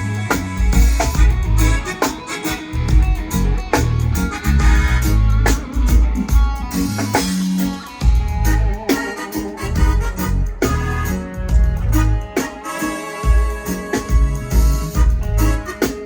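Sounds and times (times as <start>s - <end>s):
guitar: 0.0s - 16.0s
heavy bass line: 0.0s - 16.0s
strong drum beat: 0.4s - 2.0s, 2.7s - 9.1s, 9.7s - 12.4s, 13.2s - 15.7s.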